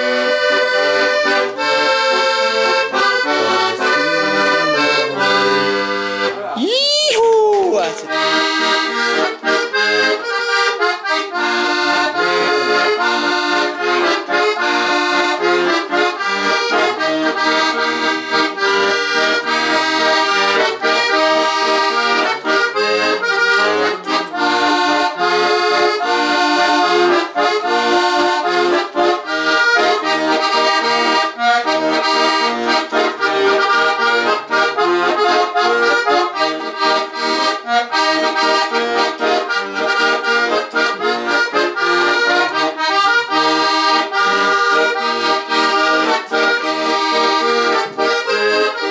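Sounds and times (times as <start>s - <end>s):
button accordion playing: 0.0s - 6.6s, 7.8s - 48.9s.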